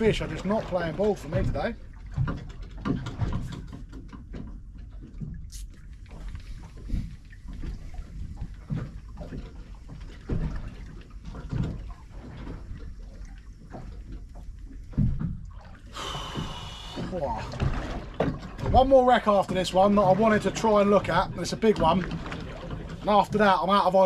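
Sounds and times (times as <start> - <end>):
water slapping against boat hull: 0.0 - 24.0.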